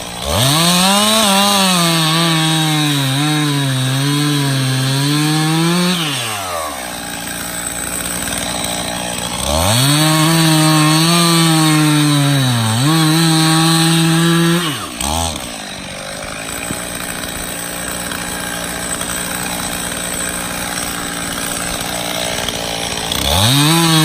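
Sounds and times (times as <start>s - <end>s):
chainsaw cutting log: 0.0s - 24.0s.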